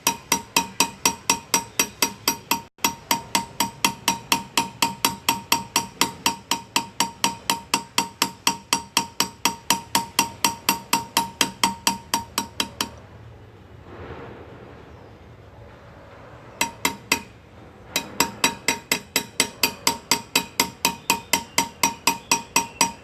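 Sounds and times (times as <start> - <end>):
hammer tapping graver into metal: 0.0 - 13.0, 16.6 - 23.0.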